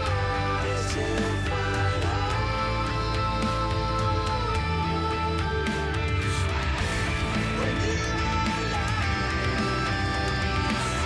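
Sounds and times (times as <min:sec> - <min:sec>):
guitar rock music: 0:00.0 - 0:11.0.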